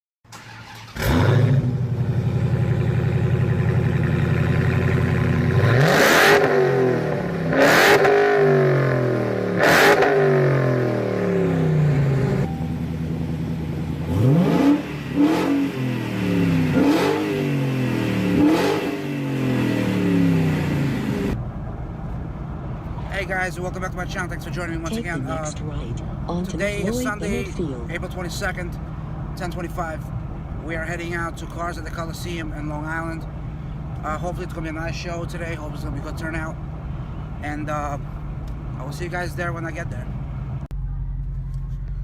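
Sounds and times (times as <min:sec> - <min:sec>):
car engine idling and revving: 0:00.3 - 0:42.0.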